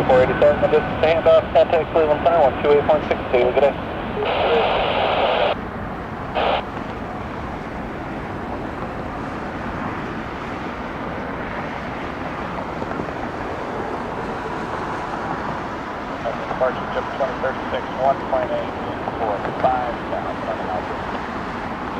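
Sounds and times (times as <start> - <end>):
jet engine rumble: 0.0 - 21.9.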